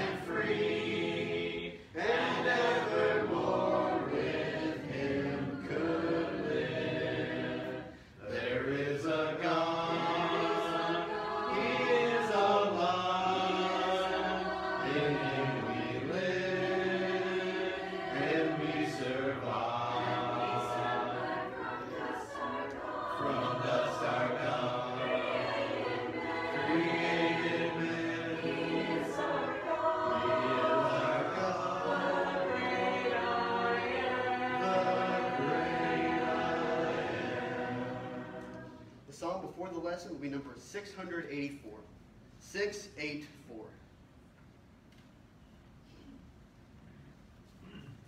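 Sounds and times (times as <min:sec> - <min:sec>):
congregation singing a hymn: 0:00.0 - 0:39.2.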